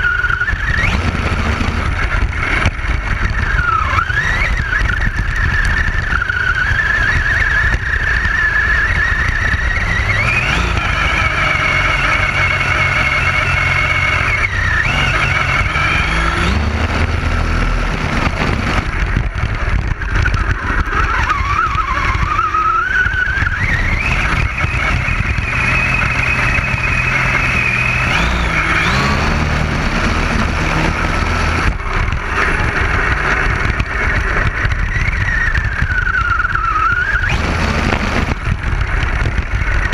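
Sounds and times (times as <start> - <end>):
rc buggy motor whine: 0.0 - 39.9.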